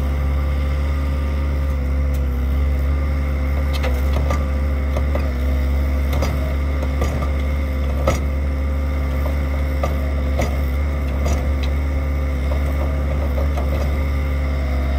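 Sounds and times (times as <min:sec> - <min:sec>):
diesel engines droning: 0:00.0 - 0:14.9.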